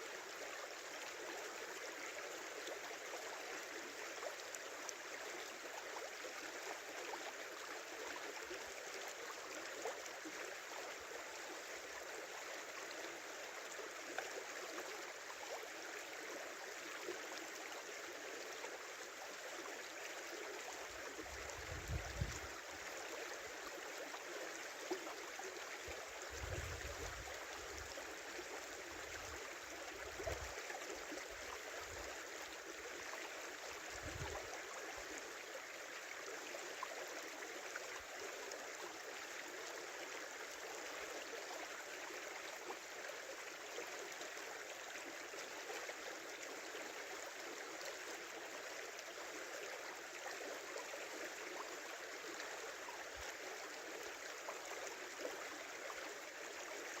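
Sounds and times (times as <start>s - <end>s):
river flowing: 0.1s - 57.0s.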